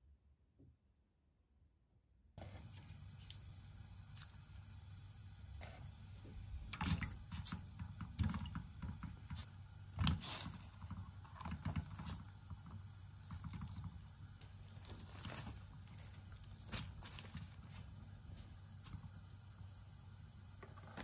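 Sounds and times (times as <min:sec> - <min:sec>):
low steady hum: 0:02.4 - 0:21.0.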